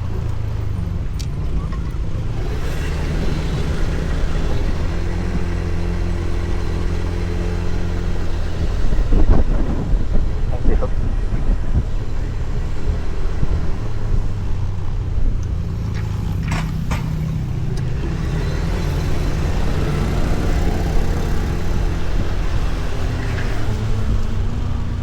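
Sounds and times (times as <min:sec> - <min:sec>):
scooter engine running: 0:00.0 - 0:25.0
wind and road noise: 0:00.0 - 0:25.0.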